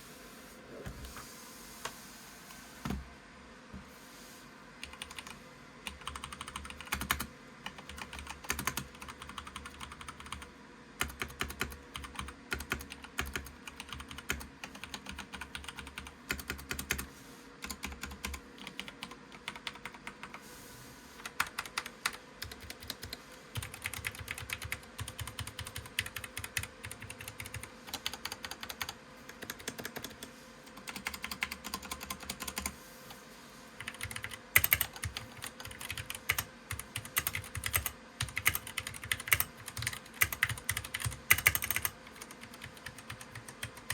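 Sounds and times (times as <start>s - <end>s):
mechanical keyboard typing: 4.8s - 20.4s, 21.2s - 32.7s, 33.8s - 43.9s.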